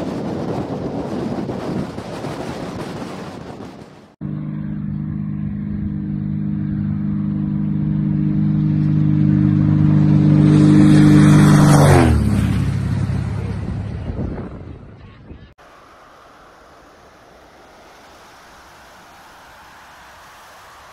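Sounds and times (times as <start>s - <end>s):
propeller plane engine droning: 0.0s - 20.9s.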